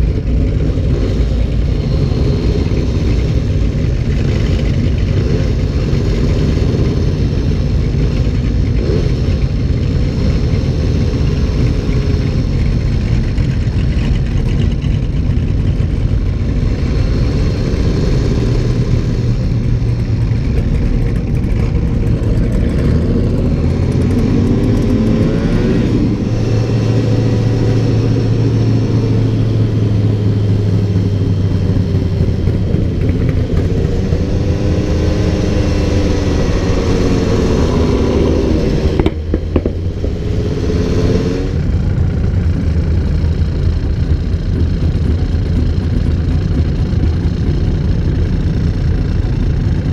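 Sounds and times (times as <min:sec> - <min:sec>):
engine revving: 0:00.0 - 0:49.9
vehicle engines rumbling: 0:00.0 - 0:49.9.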